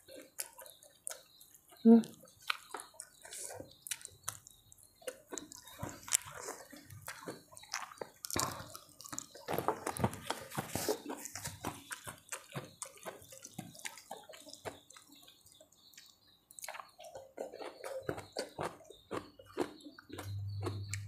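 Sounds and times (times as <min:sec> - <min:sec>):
wet chewing and lip-smacking: 0:00.0 - 0:21.0.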